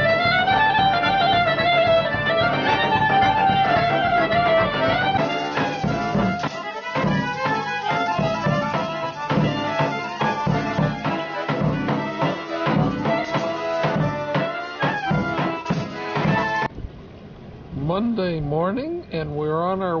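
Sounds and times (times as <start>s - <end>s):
steady drum beat: 0.0s - 16.7s
folk melody: 0.0s - 16.8s.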